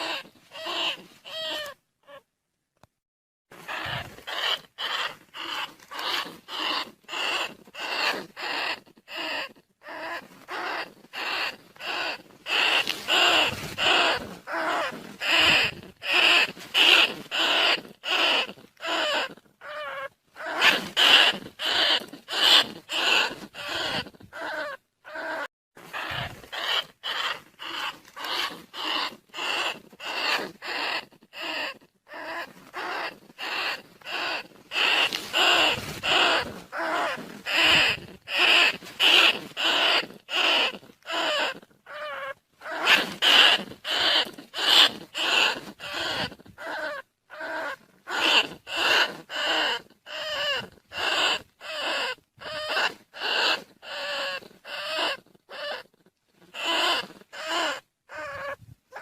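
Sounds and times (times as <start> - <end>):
rats squealing: 0.0 - 2.2, 3.6 - 59.0.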